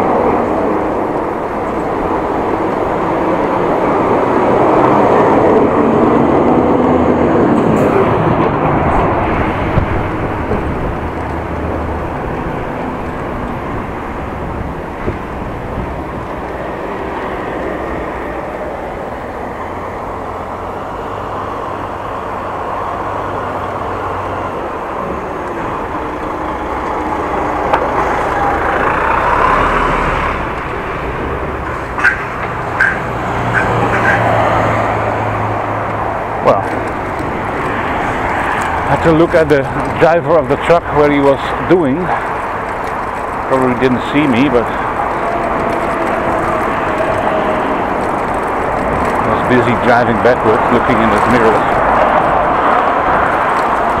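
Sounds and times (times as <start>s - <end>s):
motor vehicles passing: 0.0s - 54.0s
road traffic: 0.0s - 54.0s
wind rush: 0.0s - 54.0s.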